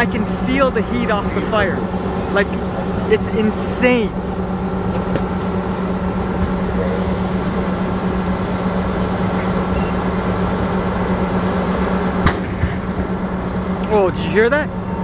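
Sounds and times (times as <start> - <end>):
fire truck engine running: 0.0 - 15.0
noisy wash: 0.0 - 15.0.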